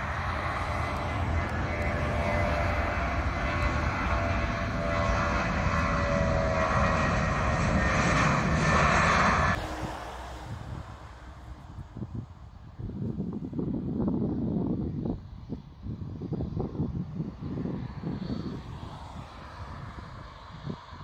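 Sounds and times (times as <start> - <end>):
jet engine whine: 0.0 - 21.0
jet engines rushing: 0.0 - 21.0.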